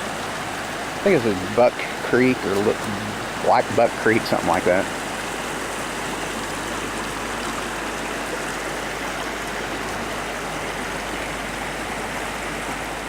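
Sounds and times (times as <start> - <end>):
creek rushing over cascade: 0.0 - 13.0.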